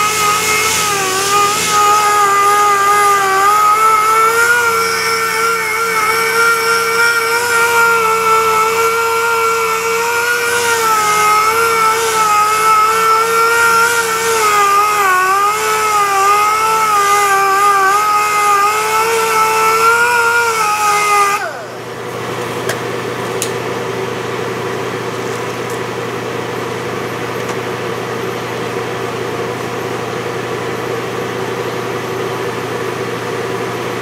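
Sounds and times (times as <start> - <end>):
power sander whining: 0.0 - 34.0.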